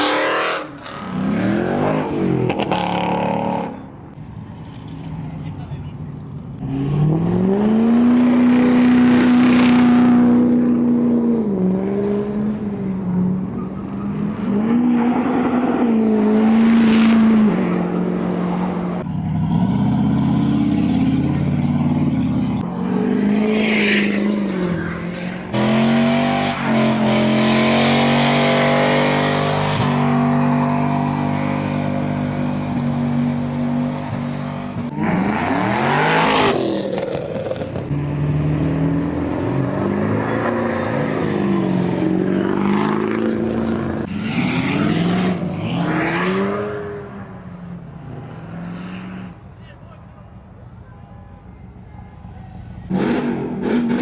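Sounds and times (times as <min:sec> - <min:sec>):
car engines revving hard: 0:00.0 - 0:04.2, 0:06.4 - 0:49.6, 0:52.7 - 0:54.0.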